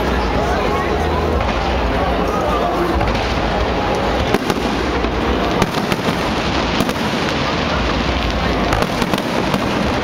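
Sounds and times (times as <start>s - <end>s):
loud background din: 0.0s - 10.0s.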